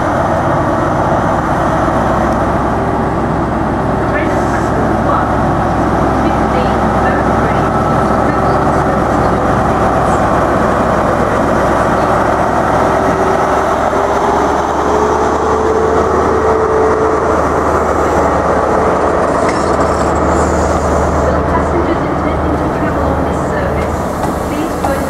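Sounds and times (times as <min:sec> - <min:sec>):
diesel engine droning: 0:00.0 - 0:25.0
train coaches rolling on rails: 0:00.0 - 0:25.0.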